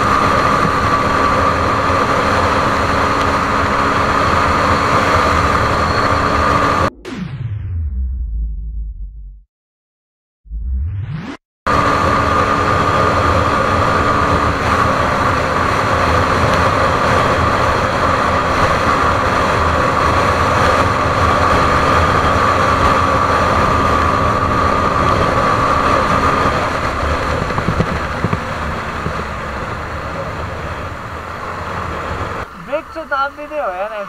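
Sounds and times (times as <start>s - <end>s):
motorcycle engine droning whine: 0.0s - 8.5s, 10.7s - 34.0s.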